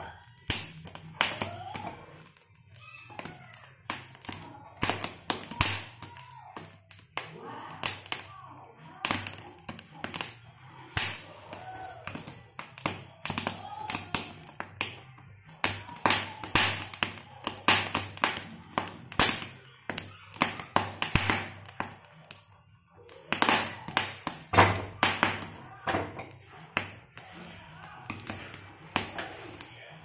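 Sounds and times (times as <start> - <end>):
corn crackling on a gas flame: 0.0 - 30.0.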